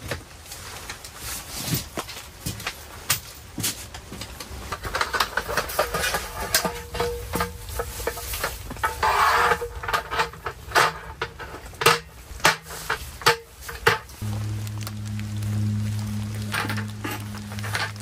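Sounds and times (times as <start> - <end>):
camping gear clicks and rustles: 0.0 - 14.5.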